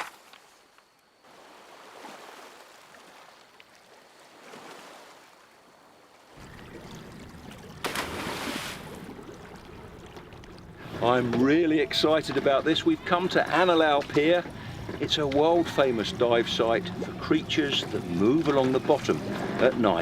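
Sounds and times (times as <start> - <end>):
small waves washing in: 1.2 - 20.0.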